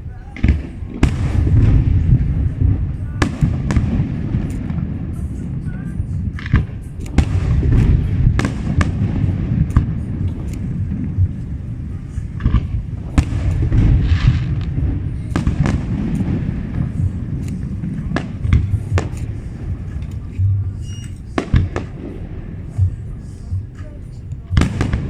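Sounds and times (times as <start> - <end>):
low rumble of firework bursts: 0.0 - 25.0
firework bangs and cracks: 0.3 - 25.0.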